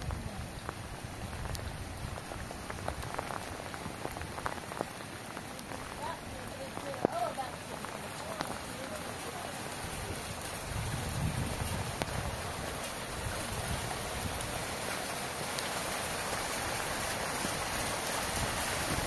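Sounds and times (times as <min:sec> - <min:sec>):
rain falling on puddles: 0:00.0 - 0:19.0.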